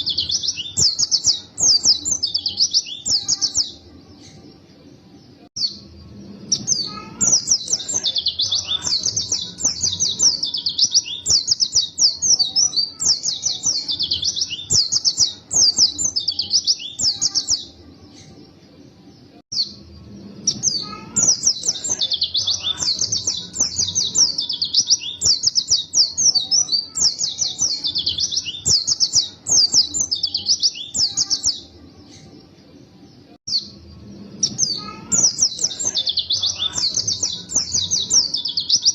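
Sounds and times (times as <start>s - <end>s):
bird twittering song: 0.0s - 18.6s, 19.2s - 38.9s.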